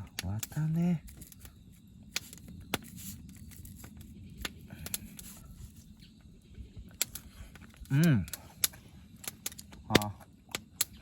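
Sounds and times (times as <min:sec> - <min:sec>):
campfire crackling: 0:00.0 - 0:11.0
sharp fire pops: 0:00.0 - 0:11.0.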